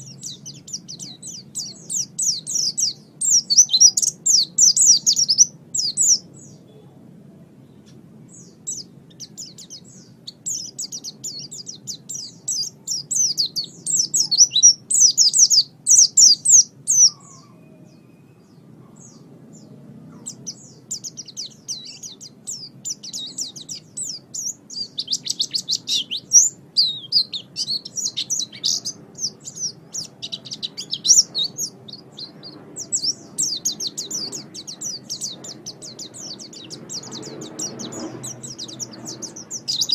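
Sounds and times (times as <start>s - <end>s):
bird high thin chirping: 0.0s - 6.7s, 7.8s - 19.3s, 20.2s - 39.9s.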